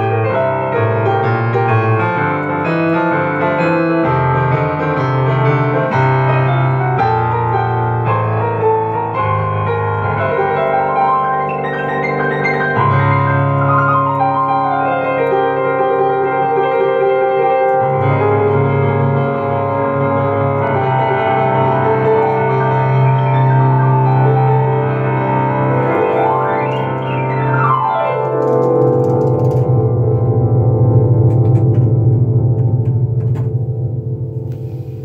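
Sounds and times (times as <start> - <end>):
upright piano playing: 0.0 - 35.0.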